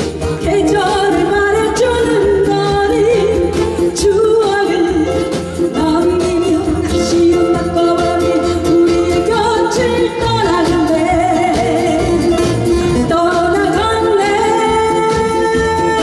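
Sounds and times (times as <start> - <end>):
drum kit: 0.0 - 16.0
electric guitar: 0.0 - 16.0
woman singing into a microphone: 0.0 - 16.0.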